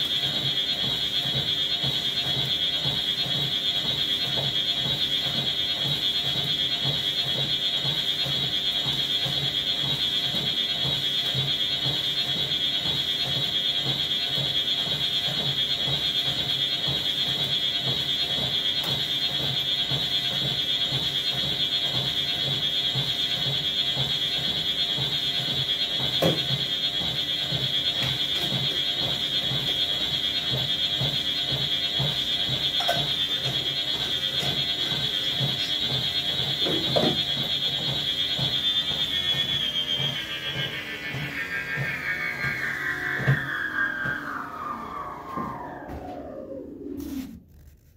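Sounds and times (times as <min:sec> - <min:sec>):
footfalls on treadmill belt: 0:00.0 - 0:47.2
treadmill whine and motor hum: 0:00.0 - 0:47.9.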